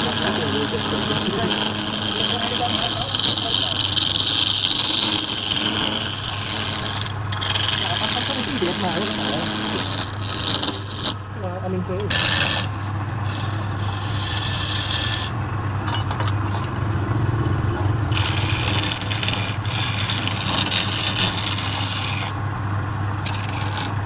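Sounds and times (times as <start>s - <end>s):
chisel scraping spinning wood: 0.0s - 11.3s, 12.0s - 16.8s, 18.0s - 24.0s
wood lathe humming: 0.0s - 24.0s.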